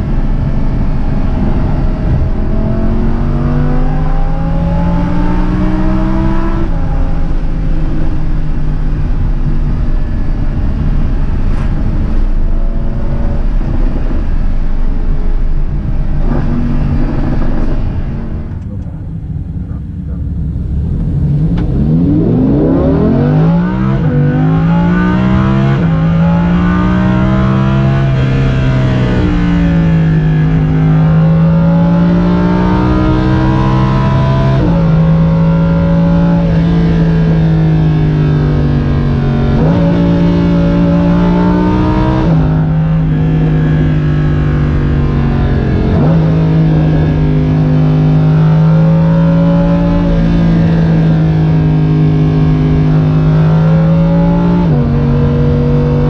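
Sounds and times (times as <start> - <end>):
sports car engine shifting gears: 0.0 - 56.0.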